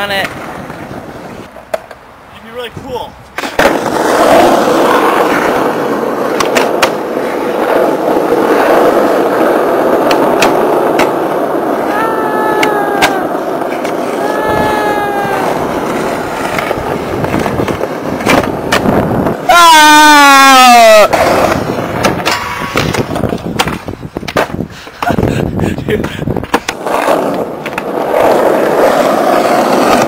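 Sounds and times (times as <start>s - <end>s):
skateboard wheels rolling on asphalt: 0.0s - 30.0s
skateboard clacks: 3.4s - 19.6s, 21.1s - 30.0s.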